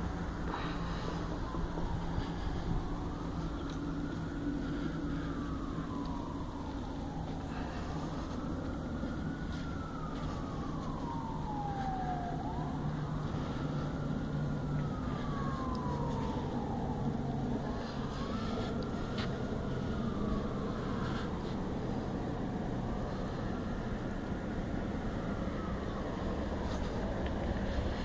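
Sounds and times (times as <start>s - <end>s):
emergency vehicle siren wailing: 0.0s - 28.0s
low rumble of traffic: 0.0s - 28.0s.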